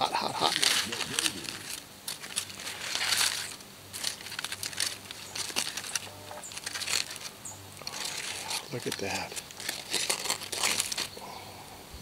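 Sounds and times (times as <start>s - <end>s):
aluminium foil crinkling: 0.2s - 11.2s.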